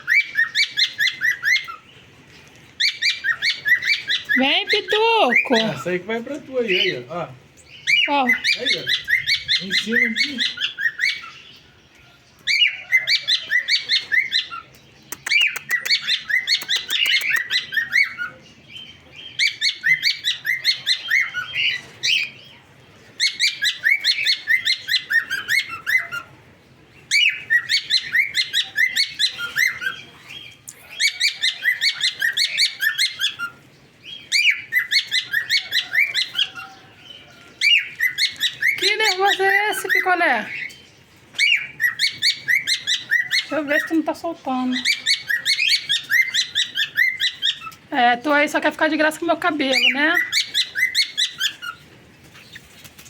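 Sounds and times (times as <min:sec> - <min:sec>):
cockatiel chirping: 0:00.0 - 0:01.9, 0:02.8 - 0:05.8, 0:07.8 - 0:11.6, 0:12.4 - 0:22.3, 0:23.2 - 0:26.4, 0:27.1 - 0:40.8, 0:41.4 - 0:44.0, 0:44.6 - 0:47.8, 0:49.6 - 0:52.8.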